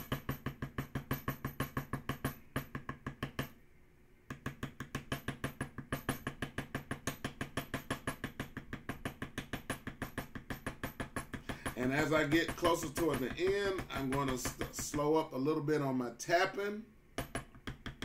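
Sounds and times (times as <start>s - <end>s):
mallet tapping metal tool: 0.0s - 3.6s, 4.3s - 15.4s, 17.2s - 18.0s.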